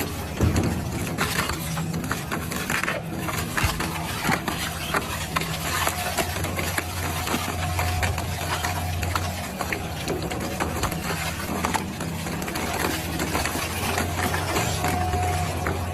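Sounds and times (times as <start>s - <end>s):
shredder motor humming: 0.0s - 15.9s.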